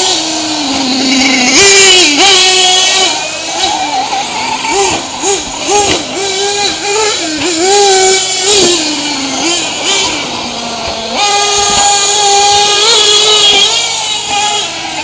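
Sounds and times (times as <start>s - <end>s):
rc truck engines revving: 0.0s - 15.0s.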